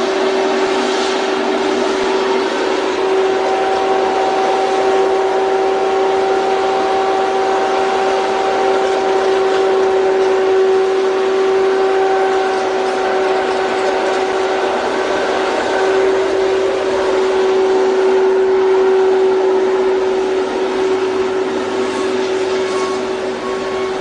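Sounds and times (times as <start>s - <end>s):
machine whine: 0.0s - 24.0s
steady mechanical noise: 0.0s - 24.0s.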